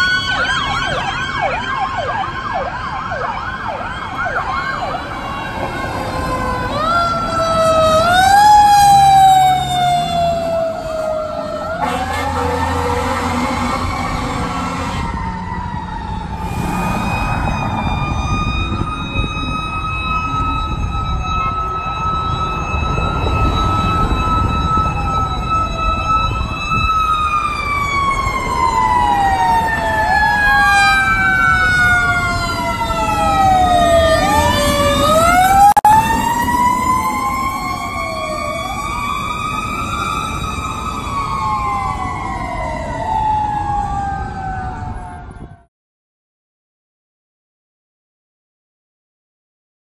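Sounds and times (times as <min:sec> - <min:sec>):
fire truck sirens: 0:00.0 - 0:45.7.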